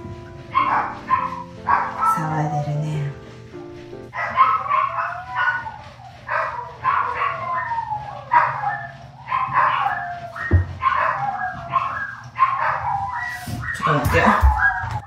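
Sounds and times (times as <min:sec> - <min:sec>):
dogs howling and barking: 0:00.0 - 0:03.2, 0:04.1 - 0:15.0.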